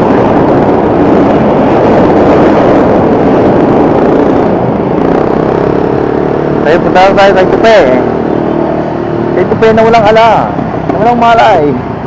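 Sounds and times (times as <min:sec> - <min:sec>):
motorcycle engine running: 0:00.0 - 0:12.0
wind rush on microphone: 0:00.0 - 0:12.0.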